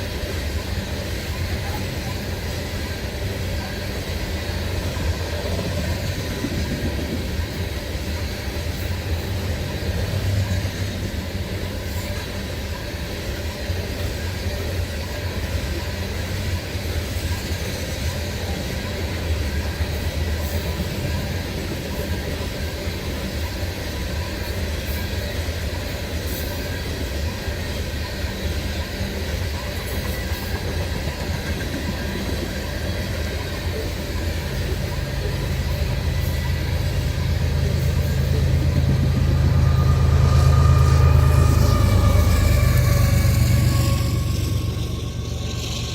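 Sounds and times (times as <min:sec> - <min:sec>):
train wheels on rails: 0:00.0 - 0:45.9.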